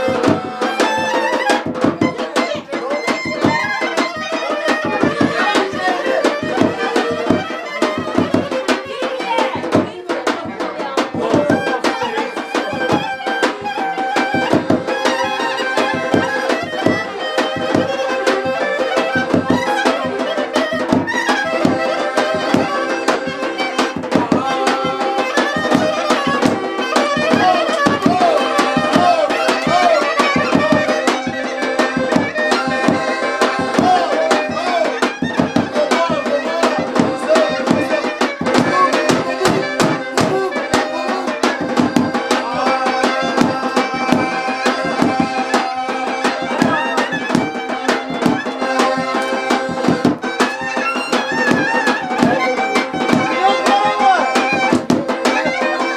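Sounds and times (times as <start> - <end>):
fast hand drum beat: 0.0 - 55.9
held accompanying notes: 0.0 - 55.9
wavering lead melody: 0.0 - 55.9.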